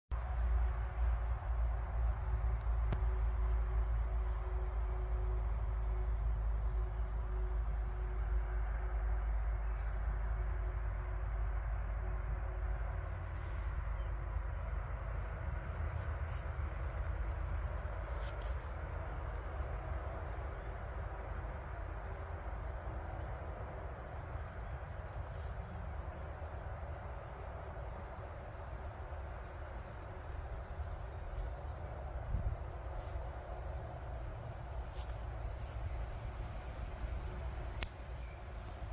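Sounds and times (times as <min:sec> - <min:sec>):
wind rumble on microphone: 0:00.1 - 0:38.9.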